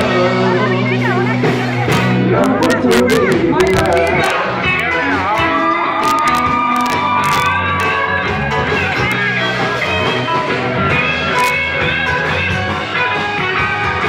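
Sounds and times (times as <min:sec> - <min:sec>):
electric guitar: 0:00.0 - 0:14.0
instrumental rock band: 0:00.0 - 0:14.0.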